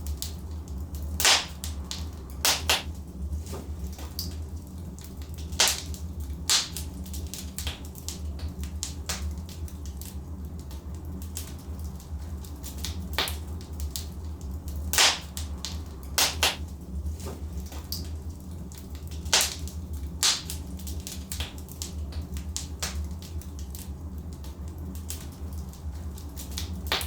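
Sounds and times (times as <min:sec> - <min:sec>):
fire crackling and popping: 0:00.0 - 0:27.0
low rumble of fire: 0:00.0 - 0:27.0.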